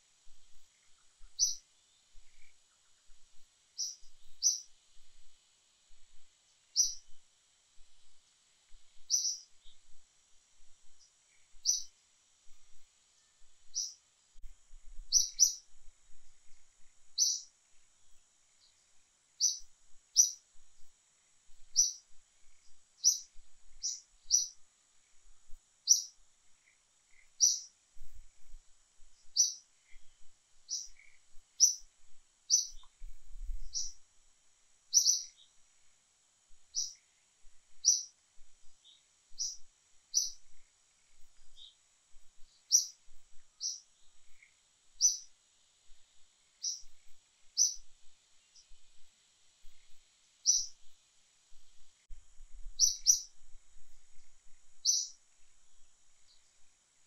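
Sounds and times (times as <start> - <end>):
small bird chirping: 0.0 - 34.1, 34.9 - 57.0
faint high hiss: 0.0 - 57.0.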